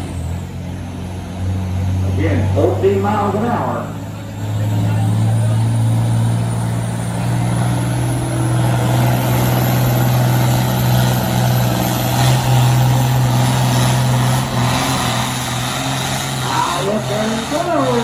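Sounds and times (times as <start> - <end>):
tractor diesel engine running hard: 0.0 - 18.0.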